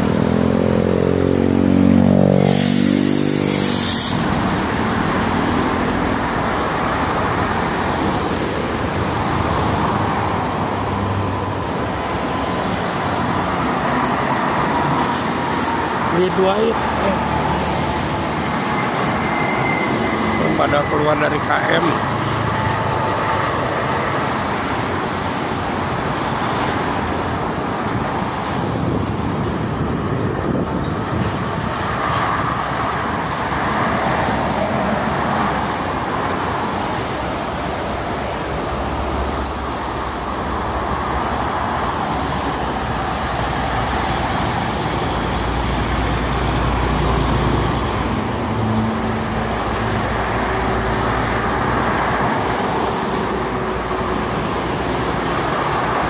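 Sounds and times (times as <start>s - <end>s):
heavy vehicles rumbling: 0.0s - 56.0s
highway traffic passing: 0.0s - 56.0s.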